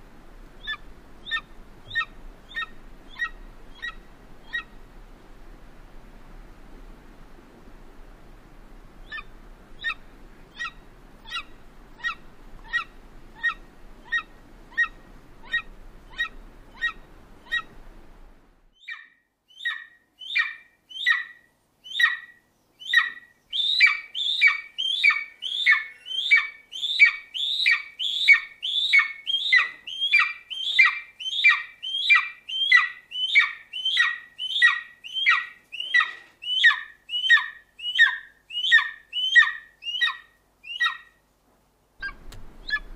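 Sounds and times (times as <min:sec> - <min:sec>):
background hiss: 0:00.0 - 0:42.9
eagle yelping calls: 0:00.6 - 0:04.8, 0:09.0 - 0:17.8, 0:18.8 - 0:41.2, 0:42.0 - 0:42.9.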